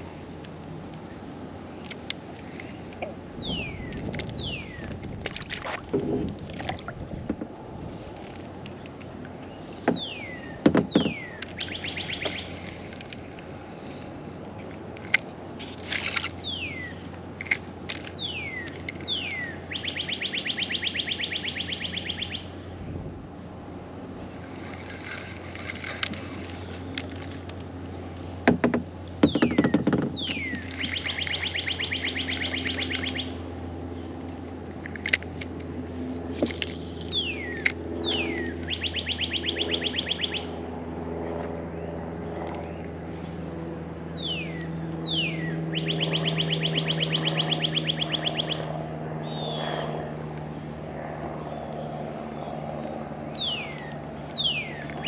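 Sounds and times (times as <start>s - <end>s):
songbird singing: 0.0s - 23.0s, 24.2s - 55.0s
steady low hum: 0.0s - 55.0s.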